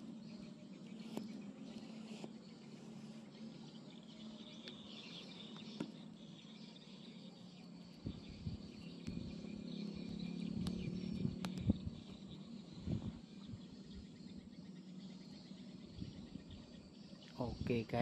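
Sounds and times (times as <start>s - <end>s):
insects chirping: 0.0s - 18.0s
low even hum: 0.0s - 18.0s.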